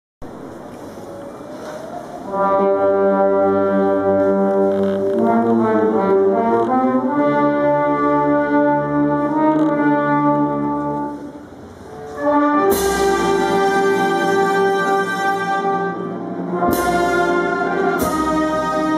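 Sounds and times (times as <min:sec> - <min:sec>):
marching brass band: 0:02.1 - 0:18.9.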